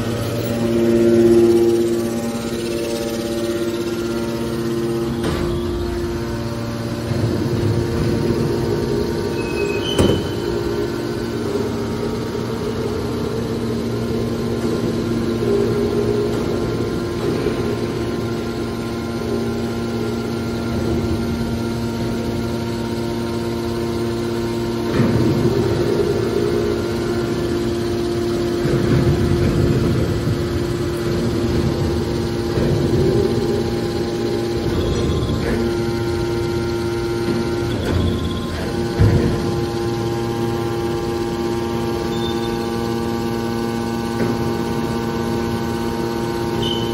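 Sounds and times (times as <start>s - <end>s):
hydraulic machinery humming: 0.0s - 46.9s.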